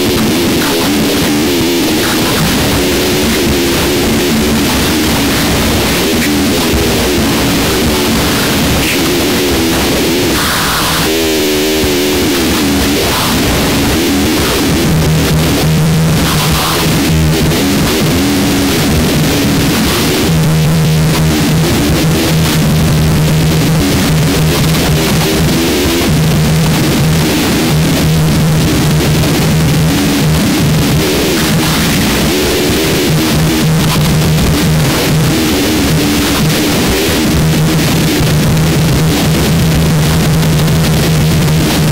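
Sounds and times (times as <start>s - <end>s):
harsh distorted noise music: 0.0s - 41.9s.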